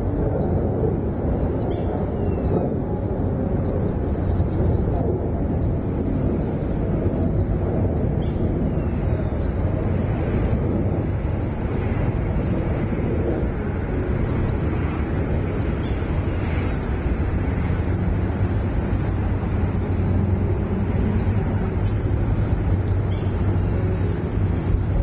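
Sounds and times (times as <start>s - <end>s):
low rumbling outdoor background noise: 0.0s - 25.0s.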